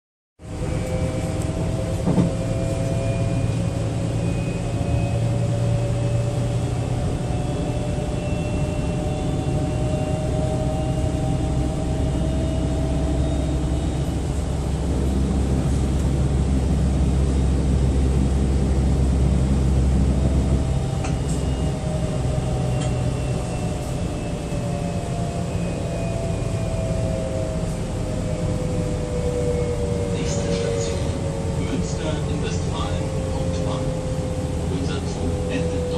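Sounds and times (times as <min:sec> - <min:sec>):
electric train traction whine: 0:00.4 - 0:35.9
low train rumble: 0:00.4 - 0:35.9.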